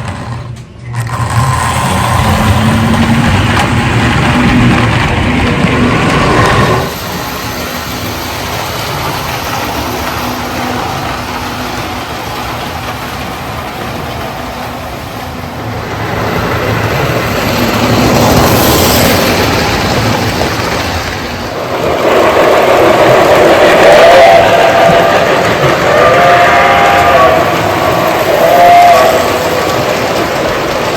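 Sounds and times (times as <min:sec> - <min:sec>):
toy train running on track: 0:00.0 - 0:30.9.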